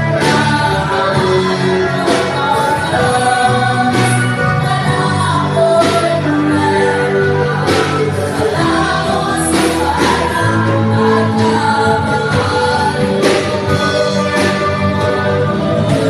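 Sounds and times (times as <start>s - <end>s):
low bass notes: 0.0s - 16.0s
women singing gospel: 0.0s - 16.0s.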